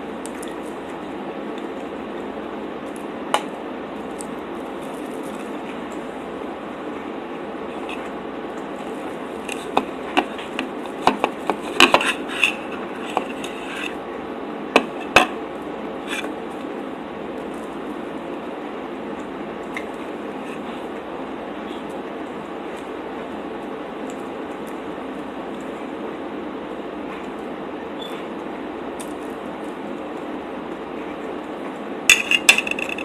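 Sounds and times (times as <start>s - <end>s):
steady background hiss: 0.0s - 33.0s.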